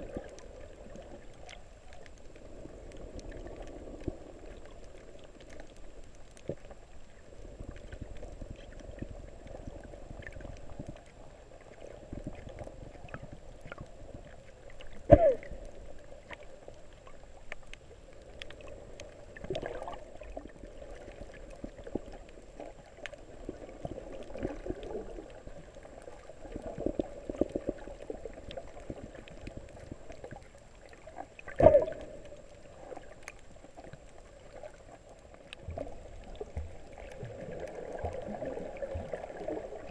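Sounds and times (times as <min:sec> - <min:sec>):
faint underwater clicks: 0:00.0 - 0:39.9
muffled underwater water wash: 0:00.0 - 0:39.9
surges of water noise: 0:00.0 - 0:39.9.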